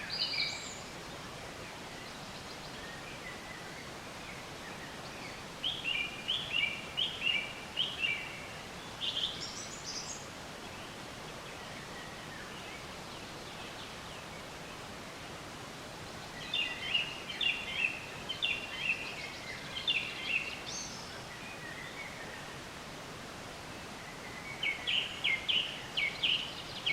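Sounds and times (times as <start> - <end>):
outdoor background hiss: 0.0 - 26.9
songbird chirping: 0.0 - 26.9.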